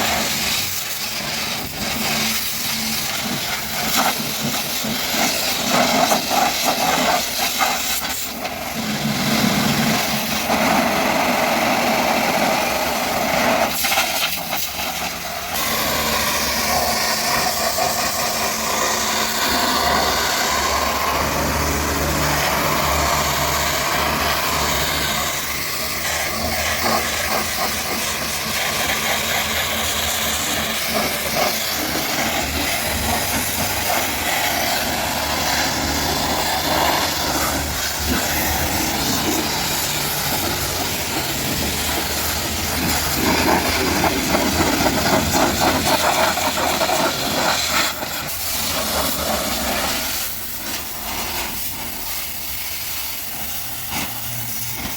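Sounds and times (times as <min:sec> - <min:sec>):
pressure washer motor hum: 0:00.0 - 0:54.9
pressure washer water jet hissing: 0:00.0 - 0:54.9.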